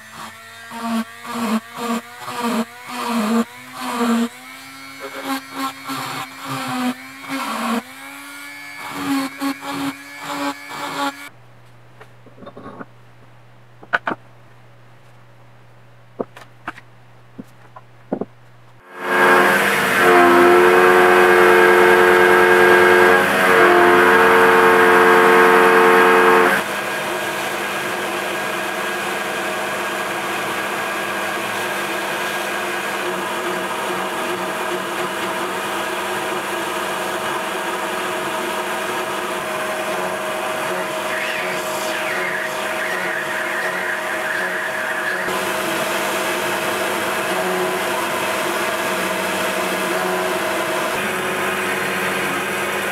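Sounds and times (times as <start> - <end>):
milling machine cutting metal: 0.0 - 11.3, 18.8 - 52.9.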